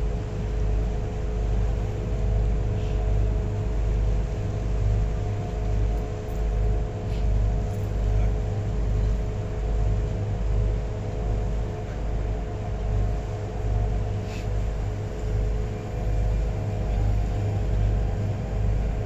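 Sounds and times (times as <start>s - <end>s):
boat engine drone: 0.0s - 19.0s
constant hum: 0.0s - 19.0s.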